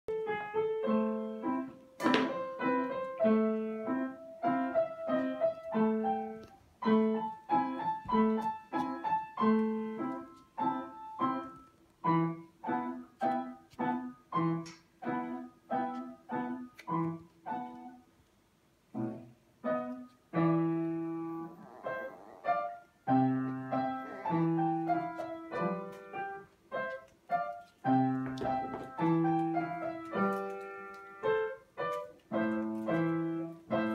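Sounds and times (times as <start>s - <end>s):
solo piano music: 0.1s - 18.1s, 18.9s - 33.9s.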